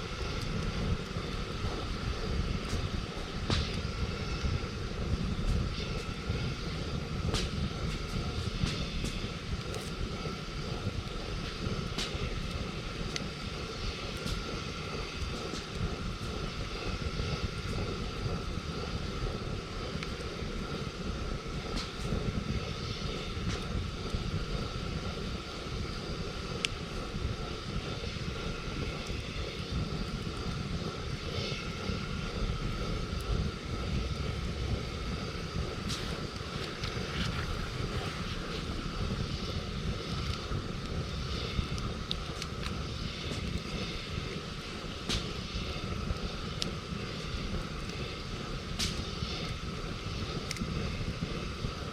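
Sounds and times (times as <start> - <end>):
low rumble: 0.0 - 51.9
campfire crackling and popping: 0.1 - 51.9.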